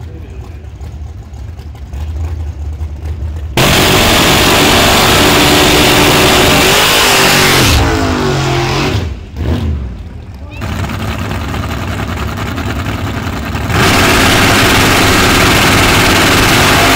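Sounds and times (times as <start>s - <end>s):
drag racing car engine: 0.0s - 16.9s.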